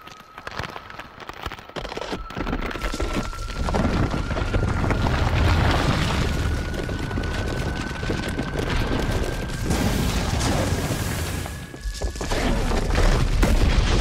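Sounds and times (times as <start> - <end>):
rock breaking crackles: 0.0 - 14.0
deep continuous rumble: 1.8 - 14.0.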